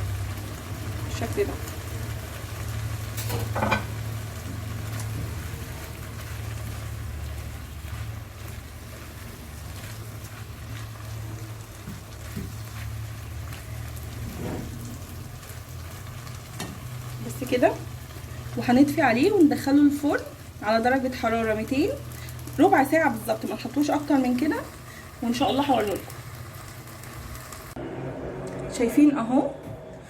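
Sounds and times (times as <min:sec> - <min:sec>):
kitchen equipment humming: 0:00.0 - 0:30.0.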